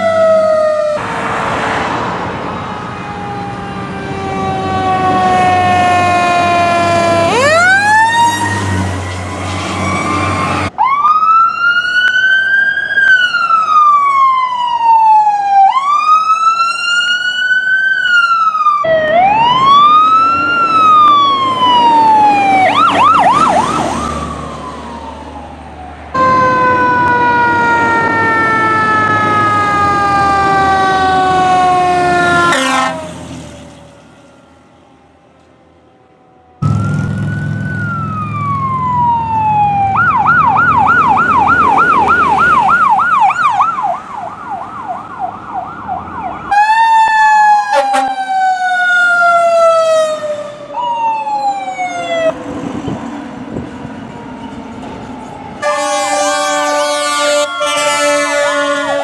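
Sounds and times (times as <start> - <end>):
fire truck sirens wailing: 0.0 - 59.0.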